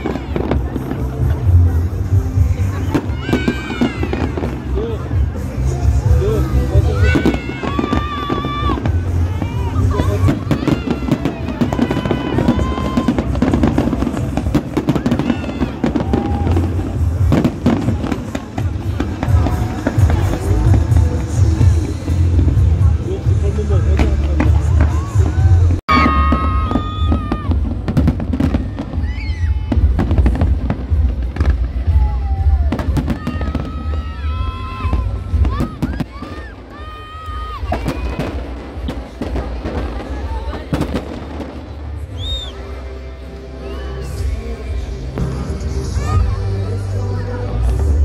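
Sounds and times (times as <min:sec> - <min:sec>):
fireworks bangs and crackles: 0:00.0 - 0:43.4, 0:44.0 - 0:48.0
music playing: 0:00.0 - 0:48.0.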